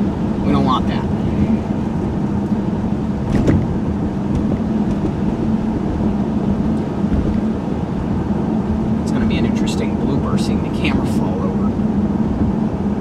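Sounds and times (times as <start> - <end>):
car engine hum: 0.0 - 13.0
road noise: 0.0 - 13.0.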